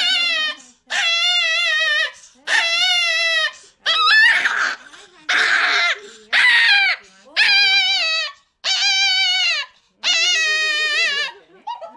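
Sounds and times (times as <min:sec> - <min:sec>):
small dog yowling: 0:00.0 - 0:11.4.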